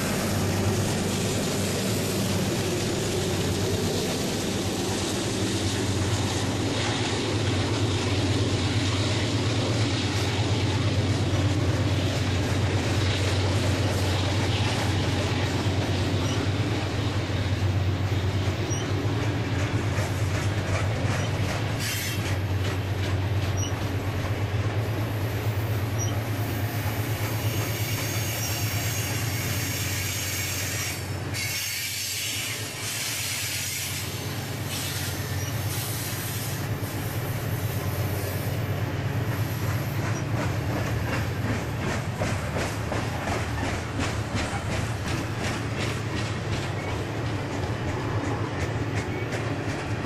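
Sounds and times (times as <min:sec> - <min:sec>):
steel wheels rumbling on rail: 0:00.0 - 0:50.0
wheels clacking over rail joints: 0:00.0 - 0:50.0.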